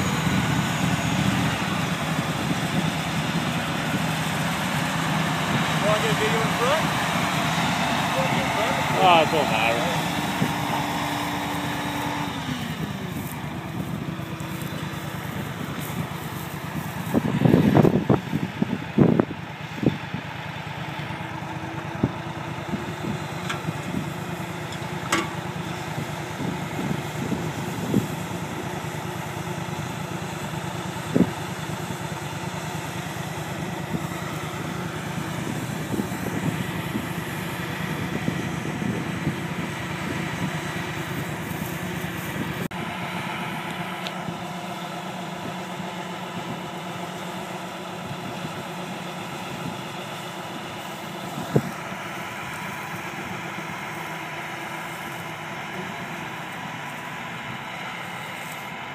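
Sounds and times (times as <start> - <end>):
engine hum: 0.0 - 58.9.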